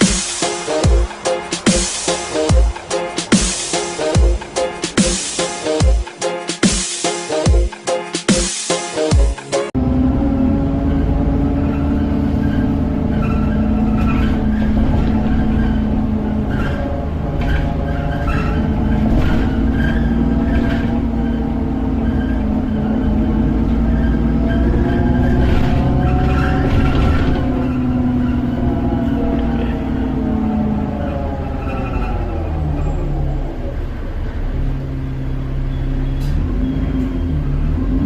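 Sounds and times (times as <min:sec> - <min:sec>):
bus engine droning: 0:00.0 - 0:38.0.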